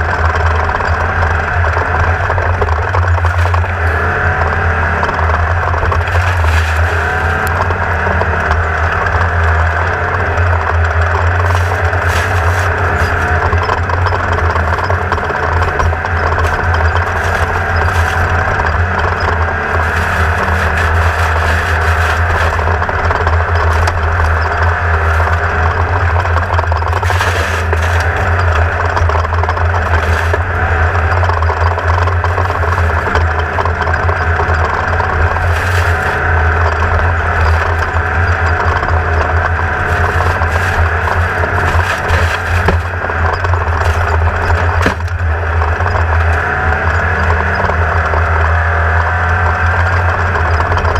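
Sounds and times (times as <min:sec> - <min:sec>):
buggy engine under load: 0:00.0 - 0:50.9
chassis rattles and scrapes: 0:00.0 - 0:50.9.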